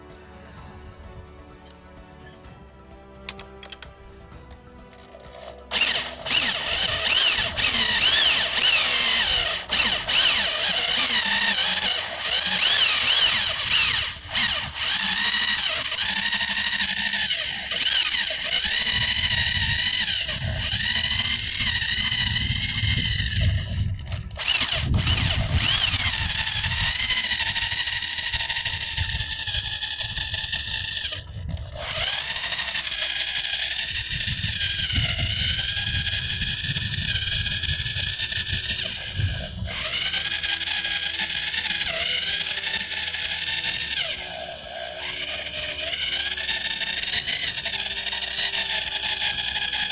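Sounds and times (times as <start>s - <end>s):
corded drill whining cutting metal: 4.9s - 49.9s.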